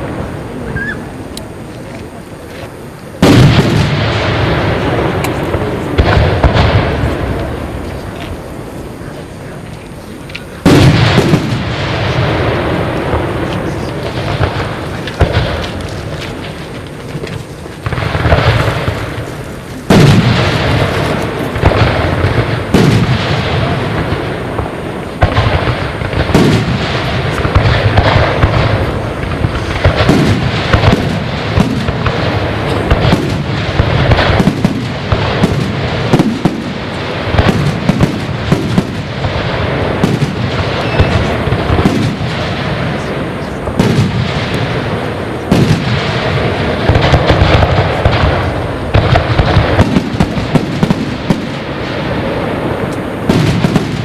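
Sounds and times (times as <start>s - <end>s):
firework shells bursting: 0.0s - 54.0s
fireworks crackling and rumbling: 0.0s - 54.0s.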